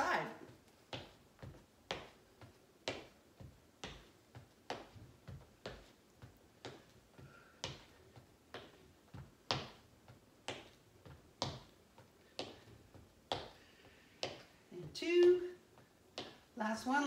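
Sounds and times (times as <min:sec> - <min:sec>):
faint footsteps: 0:00.0 - 0:16.6.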